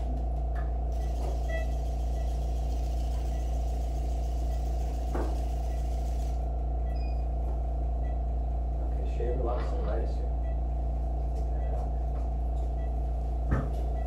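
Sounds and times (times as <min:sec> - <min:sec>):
low equipment hum: 0:00.0 - 0:14.0.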